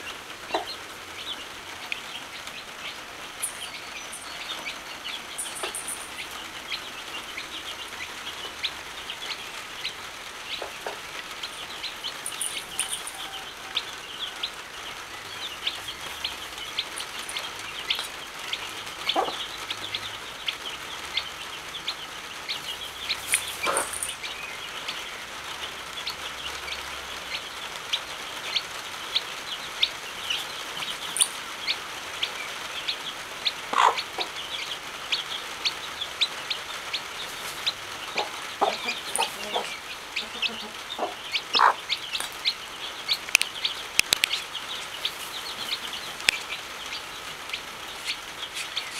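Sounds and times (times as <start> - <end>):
chick peeping: 0.0 - 48.9
heavy rain hiss: 0.0 - 48.9
hen clucking: 0.0 - 48.9.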